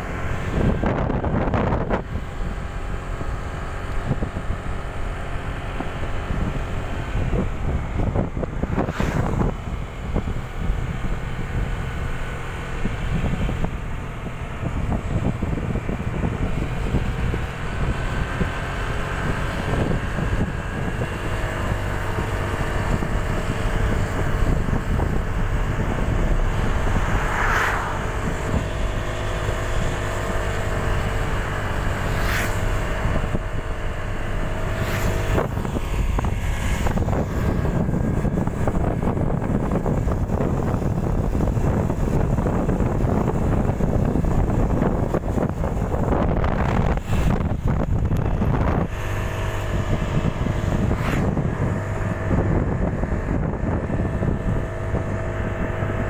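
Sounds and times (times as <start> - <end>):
motorcycle engine humming: 0.0 - 56.0
wind buffeting microphone: 0.0 - 56.0.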